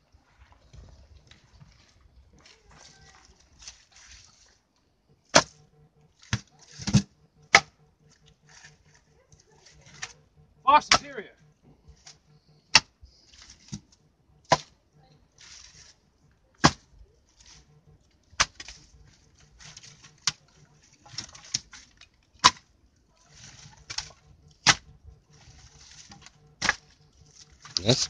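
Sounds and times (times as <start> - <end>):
wood rustling: 0.0 - 28.0.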